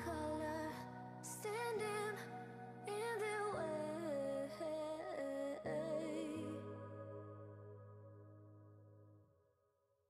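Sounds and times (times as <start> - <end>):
background music with held chords: 0.0 - 9.1.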